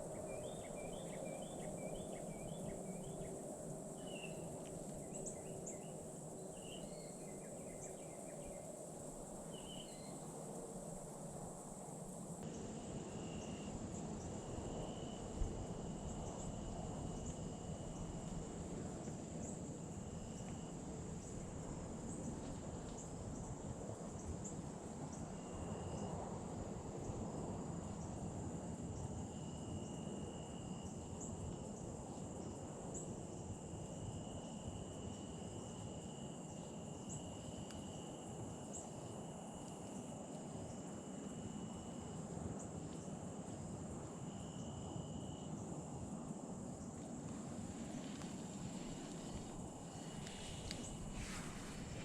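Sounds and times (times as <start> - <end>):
high insect trill: 0.0 - 26.3, 27.3 - 52.0
lower insect trill: 0.0 - 26.3, 27.0 - 52.0.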